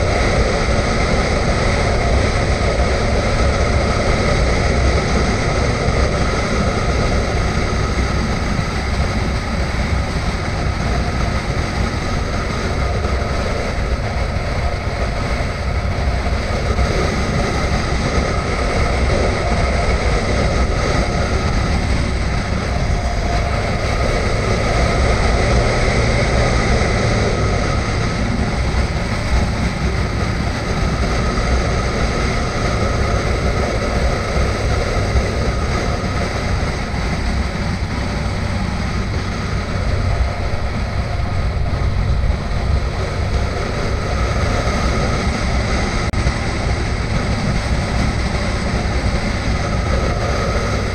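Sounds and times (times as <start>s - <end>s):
motorcycle engine running: 0.0s - 50.9s
wind noise: 0.0s - 50.9s.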